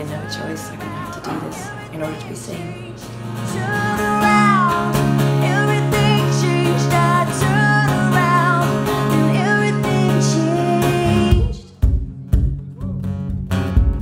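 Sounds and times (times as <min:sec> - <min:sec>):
woman singing: 0:00.0 - 0:11.9
strummed acoustic guitar: 0:00.0 - 0:14.0.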